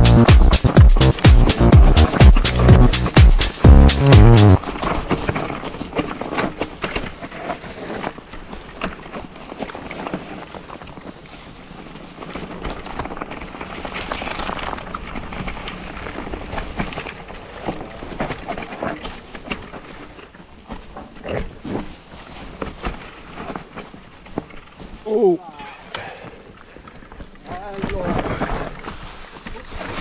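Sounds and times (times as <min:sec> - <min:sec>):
bike rattling over bumps: 0:04.6 - 0:25.0, 0:26.4 - 0:30.0
bike tyres rolling over dry leaves: 0:04.6 - 0:30.0.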